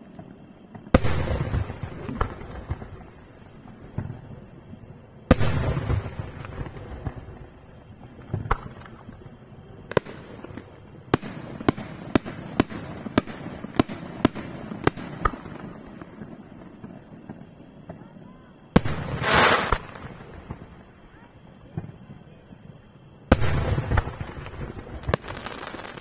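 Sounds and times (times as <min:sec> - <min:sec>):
firework bangs: 0:00.0 - 0:26.0
firework crackling hiss: 0:00.0 - 0:26.0.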